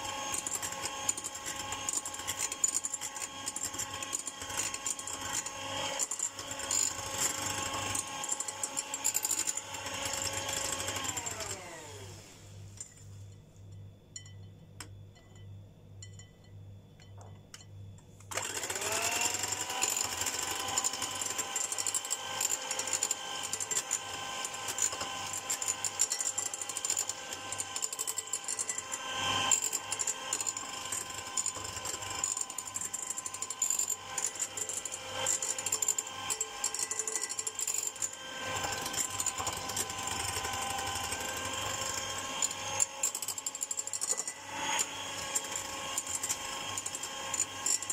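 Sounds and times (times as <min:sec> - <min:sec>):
electric hand mixer whirring: 0:00.0 - 0:12.6, 0:18.3 - 0:47.9.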